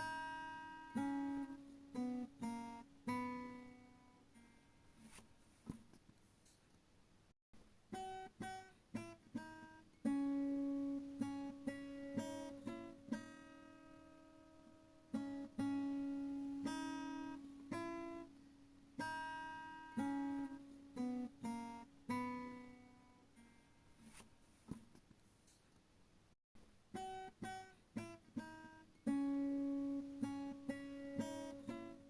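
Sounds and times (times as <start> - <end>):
acoustic guitar plucking: 0.0 - 5.2, 7.9 - 24.8, 26.9 - 32.0.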